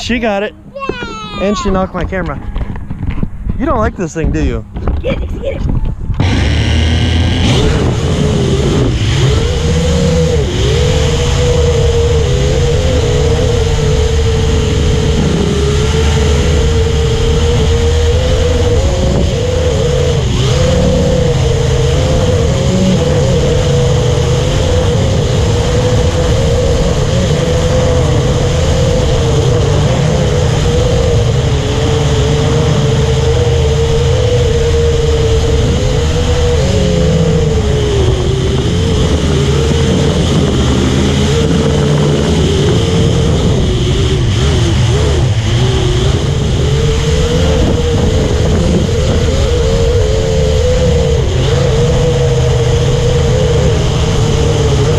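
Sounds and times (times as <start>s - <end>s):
drone propellers whining: 0.0s - 54.9s
low rumble: 0.0s - 54.9s.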